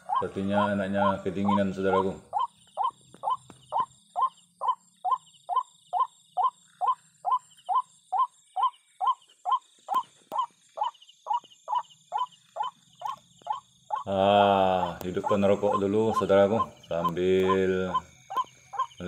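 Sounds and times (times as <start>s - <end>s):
rail bird calling: 0.0s - 19.0s.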